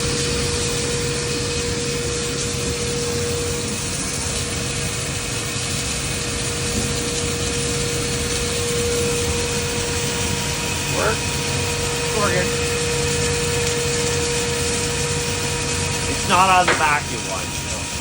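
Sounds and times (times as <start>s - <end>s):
welding machine drone with whine: 0.0s - 18.0s.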